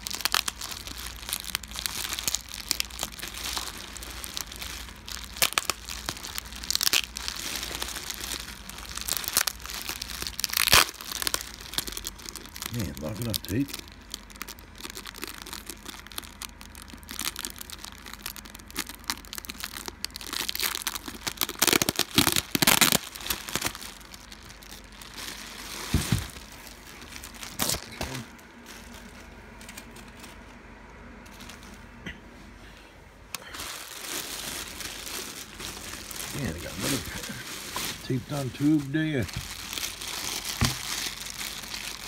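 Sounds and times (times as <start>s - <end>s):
packing tape tearing: 0.0s - 30.4s, 33.4s - 42.0s
bubble wrap crinkling: 0.0s - 32.0s, 33.3s - 42.0s.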